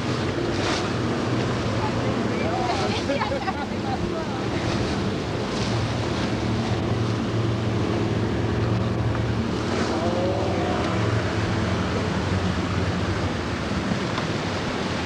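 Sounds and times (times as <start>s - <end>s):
boat engine humming: 0.0s - 15.0s
water noise: 0.0s - 15.0s
wind: 0.0s - 15.0s.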